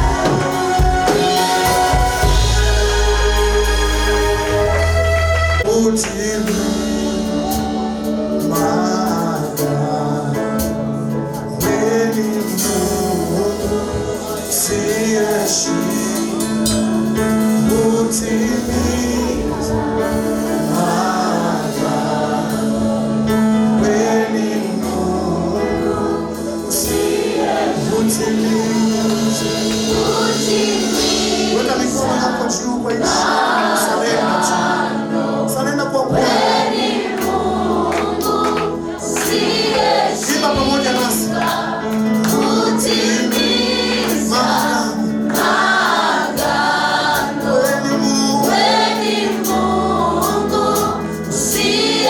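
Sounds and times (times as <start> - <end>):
instrumental accompaniment: 0.0 - 52.0
vocal group singing gospel: 0.0 - 52.0.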